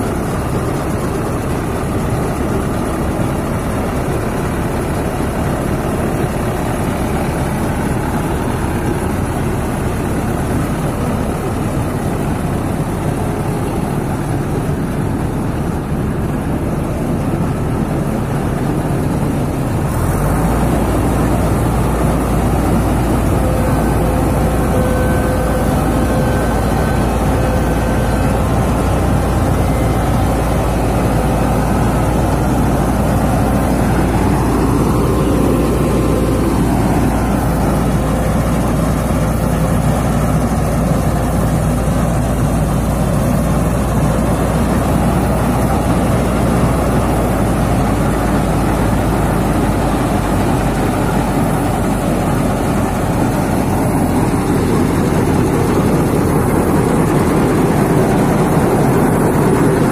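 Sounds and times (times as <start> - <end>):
combine harvester engine rumbling: 0.0 - 59.9.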